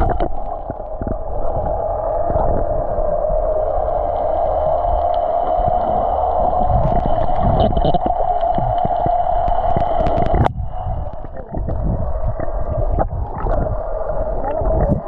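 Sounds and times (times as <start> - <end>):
gurgling water: 0.0 - 15.0
underwater droning hum: 0.0 - 15.0.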